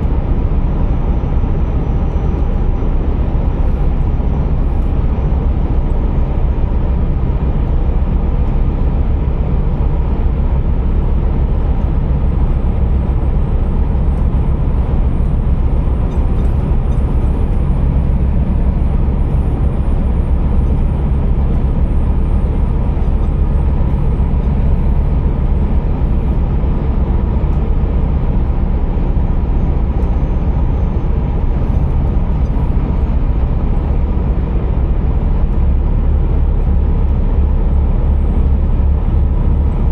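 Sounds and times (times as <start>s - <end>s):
heavy truck engine rumbling: 0.0s - 39.9s.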